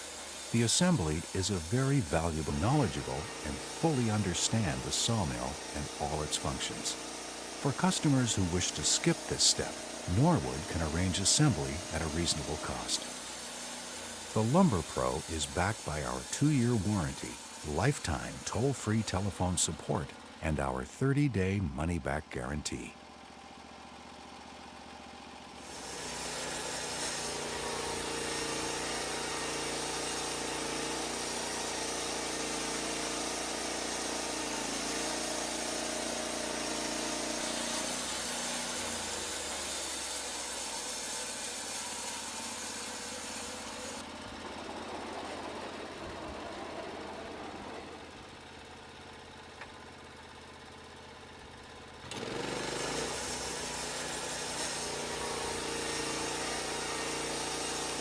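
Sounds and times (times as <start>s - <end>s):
sawmill engine drone: 0.0s - 58.0s.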